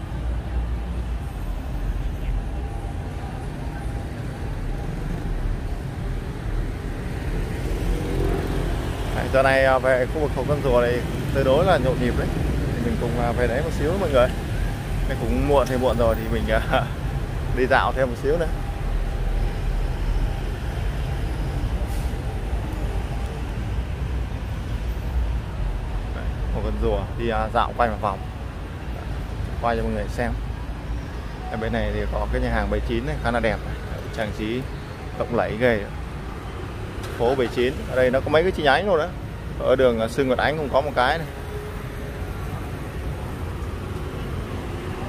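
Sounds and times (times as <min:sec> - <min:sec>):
cars passing: 0:00.0 - 0:45.0
motorbikes passing: 0:00.0 - 0:45.0
traffic rumble: 0:00.0 - 0:45.0.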